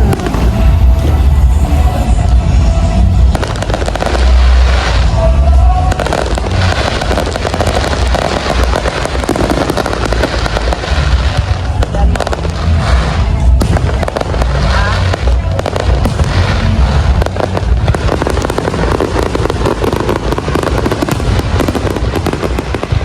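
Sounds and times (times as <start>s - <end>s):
fireworks crackling and popping: 0.0s - 23.0s
loud music with heavy bass: 0.0s - 23.0s.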